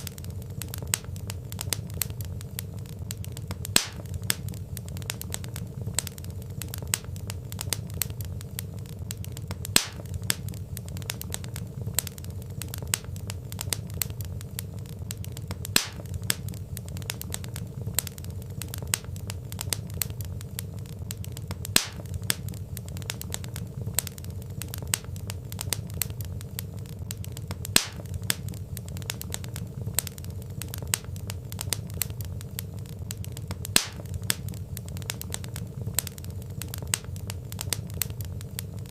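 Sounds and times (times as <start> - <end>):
fire popping: 0.0 - 38.9
logs crackling in fire: 0.0 - 38.9
low rumble of flame: 0.0 - 38.9.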